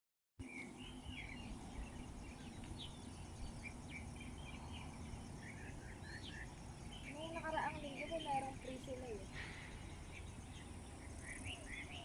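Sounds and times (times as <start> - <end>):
low steady rumble: 0.4 - 12.0
small birds chirping: 0.4 - 12.0.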